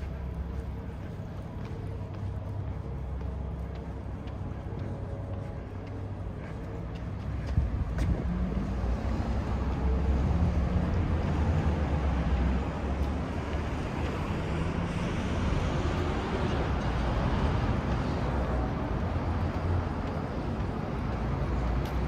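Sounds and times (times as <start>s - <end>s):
passing vehicle rumble: 0.0s - 22.0s.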